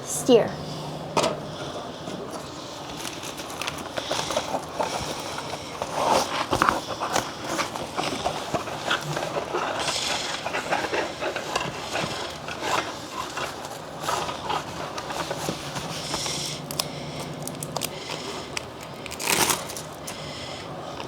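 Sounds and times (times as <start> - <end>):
packaging rustling and scraping: 1.6 - 20.3.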